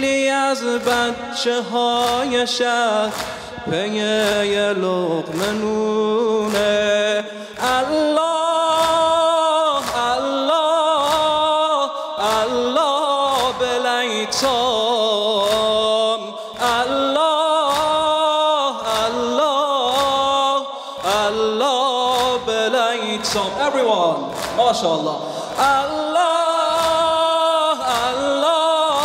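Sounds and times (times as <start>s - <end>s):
man singing a lament: 0.0s - 29.0s
steady percussive beat: 0.0s - 29.0s.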